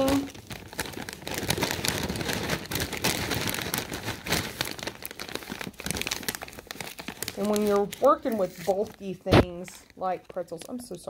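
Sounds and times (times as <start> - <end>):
plastic snack bag crinkling: 0.0 - 11.0
pretzels rattling: 0.0 - 11.0.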